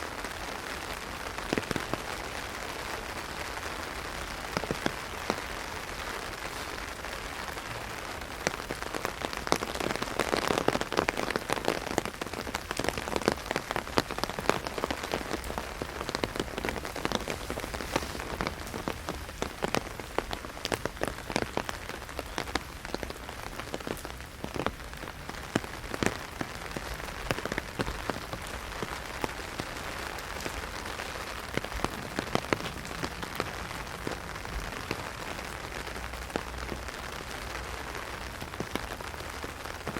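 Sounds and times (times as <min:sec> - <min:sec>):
heavy rain hitting an umbrella: 0:00.0 - 0:39.9.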